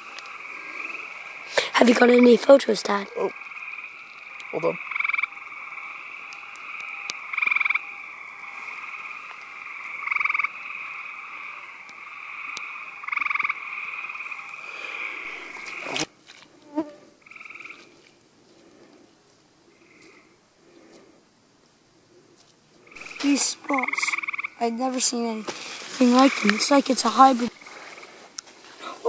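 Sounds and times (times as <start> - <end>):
treefrogs calling: 0.0 - 16.2, 17.2 - 18.3, 19.6 - 20.8, 22.8 - 29.0.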